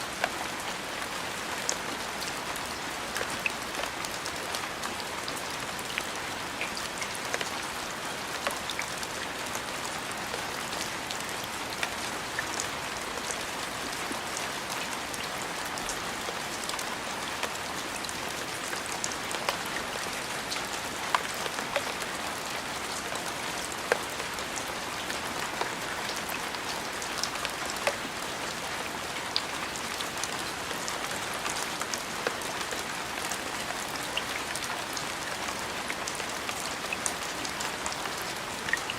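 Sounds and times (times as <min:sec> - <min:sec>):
rain drops ticking: 0:00.0 - 0:38.9
rain falling on a surface: 0:00.0 - 0:38.9.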